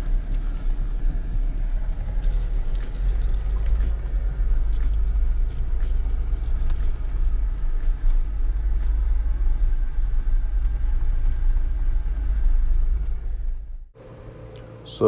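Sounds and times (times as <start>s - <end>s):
engine and tyres rumbling: 0.0s - 15.0s.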